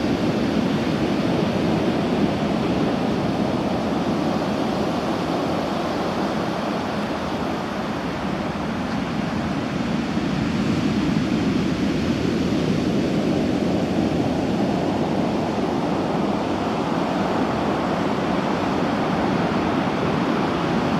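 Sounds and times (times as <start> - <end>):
heavy surf breaking on beach: 0.0 - 20.9.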